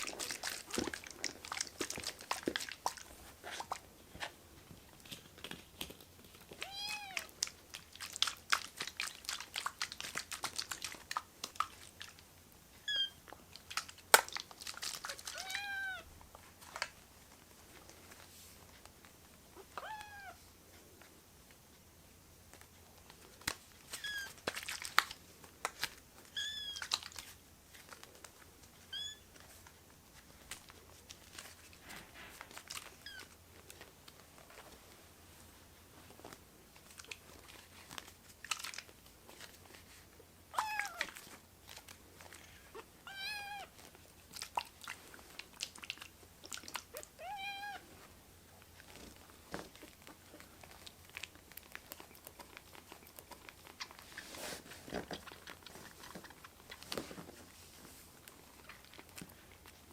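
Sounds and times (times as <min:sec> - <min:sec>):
kittens moving and chewing: 0:00.0 - 0:59.9.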